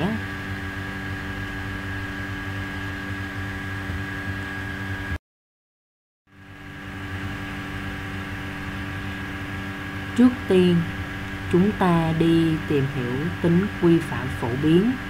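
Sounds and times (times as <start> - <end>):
background hum and hiss: 0.0 - 5.2, 6.4 - 15.0.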